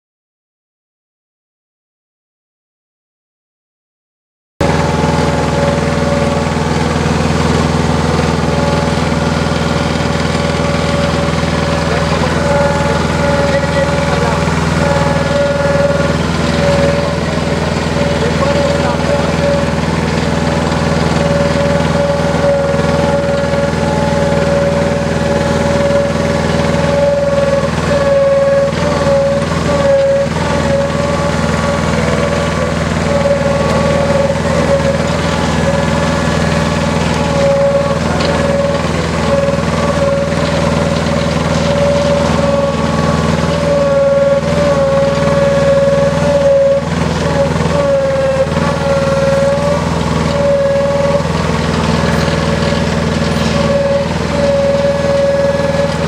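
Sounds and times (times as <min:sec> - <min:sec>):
drilling rig engine drone: 0:04.6 - 0:56.0
high whine: 0:04.6 - 0:56.0.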